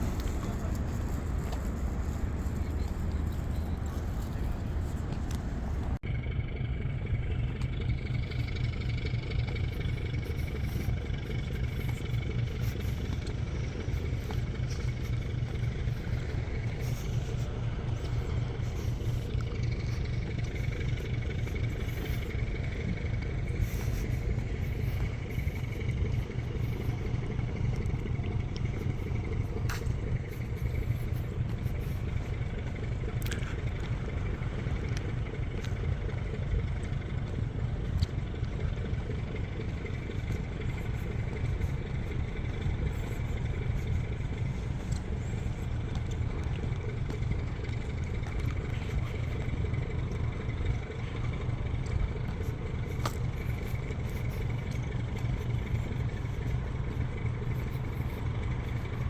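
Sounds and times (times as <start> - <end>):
faint high hum: 0.0 - 59.0
low rumble of distant engines: 0.0 - 59.0.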